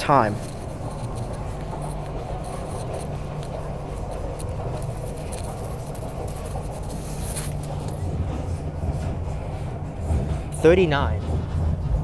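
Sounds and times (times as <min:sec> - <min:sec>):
train interior low hum: 0:00.0 - 0:12.0.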